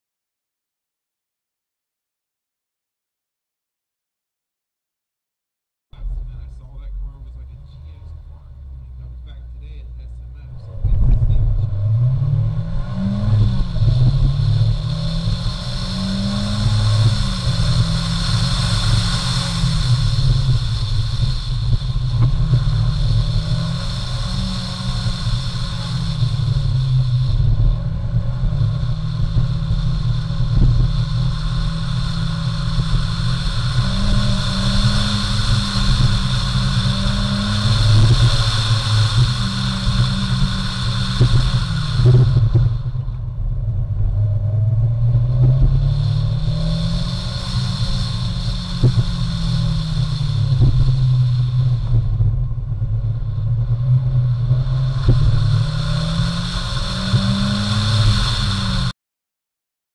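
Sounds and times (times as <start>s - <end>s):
car engine revving: 6.0s - 58.9s.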